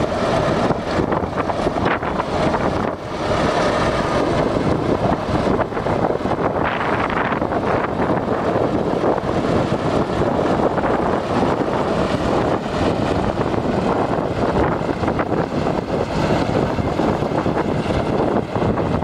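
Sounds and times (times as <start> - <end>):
bulldozer engine running: 0.0 - 19.0.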